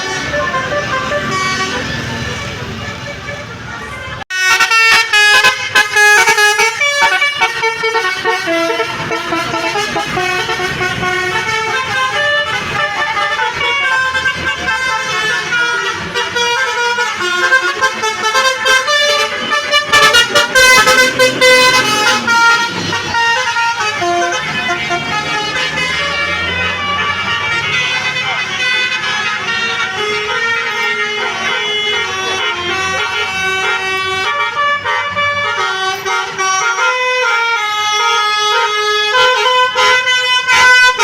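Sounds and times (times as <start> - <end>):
multi-tone bus horn melody: 0.0 - 41.0.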